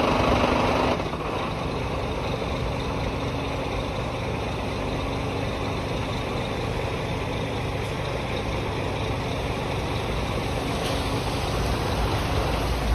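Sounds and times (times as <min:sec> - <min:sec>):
diesel truck engine running: 0:00.0 - 0:12.9.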